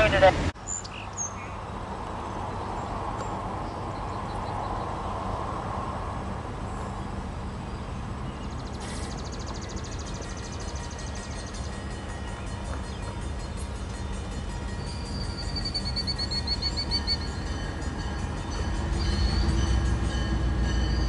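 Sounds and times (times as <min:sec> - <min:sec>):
distant locomotive engine hum: 0:00.0 - 0:21.0.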